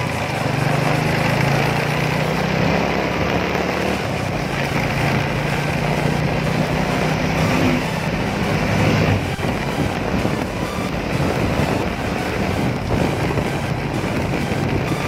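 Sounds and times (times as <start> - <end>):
road and wind noise: 0.0 - 15.0
vehicle engine running steadily: 0.0 - 15.0.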